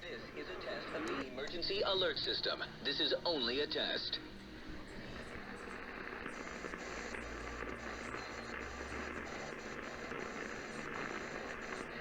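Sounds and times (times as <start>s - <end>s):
faint hum: 0.0s - 12.0s
radio static hiss: 0.0s - 12.0s.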